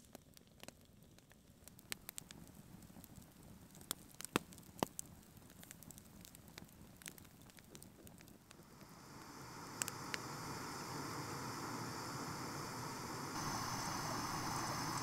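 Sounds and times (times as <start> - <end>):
campfire crackling: 0.0 - 15.0
fire popping sharply: 0.0 - 15.0.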